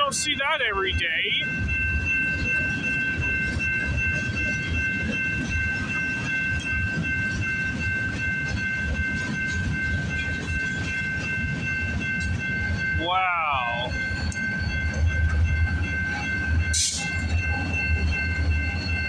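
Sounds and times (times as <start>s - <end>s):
freight train cars rumbling: 0.0s - 19.0s.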